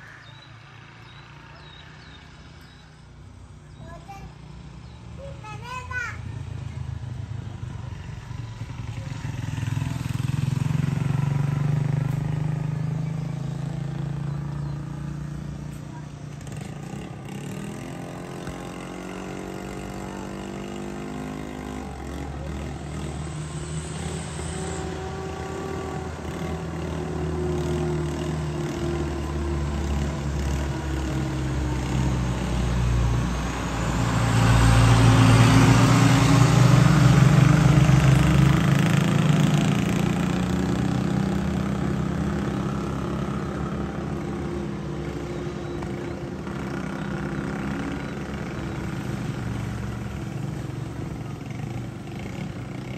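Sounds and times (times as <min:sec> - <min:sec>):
motor vehicle engines running: 0:00.0 - 0:52.9
vehicle passing close: 0:06.0 - 0:52.9.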